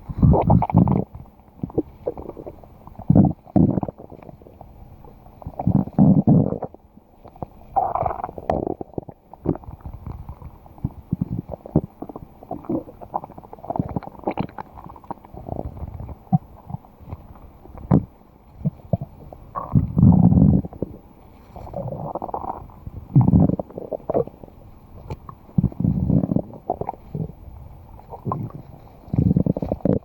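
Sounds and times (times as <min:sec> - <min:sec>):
stomach growling and gurgling: 0:00.0 - 0:30.0.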